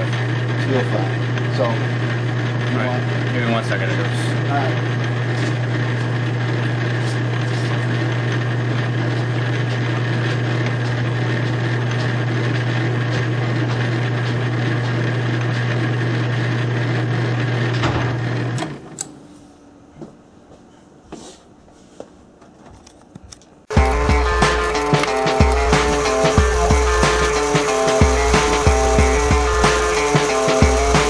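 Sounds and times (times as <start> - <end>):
metal lathe running: 0.0 - 18.8, 23.7 - 31.0.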